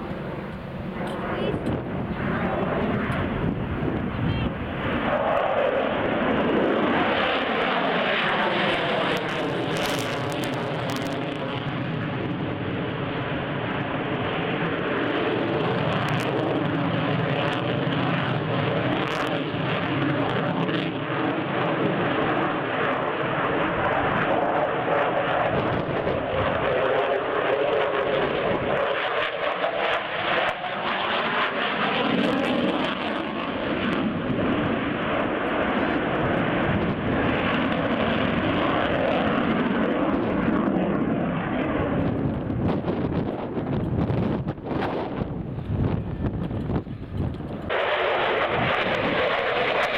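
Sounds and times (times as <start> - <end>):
airplane engine drone: 0.0 - 49.9.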